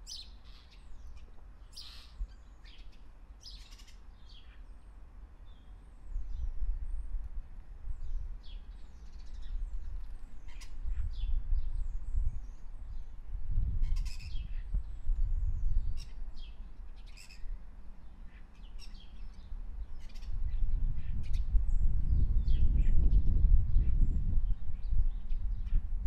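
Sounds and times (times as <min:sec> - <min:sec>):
small birds chirping: 0:00.0 - 0:07.1, 0:08.0 - 0:25.9.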